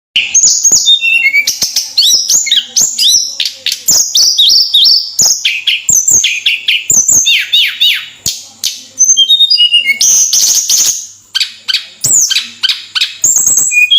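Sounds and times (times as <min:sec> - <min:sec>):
bird singing whistled notes: 0:00.2 - 0:08.1, 0:09.0 - 0:13.9.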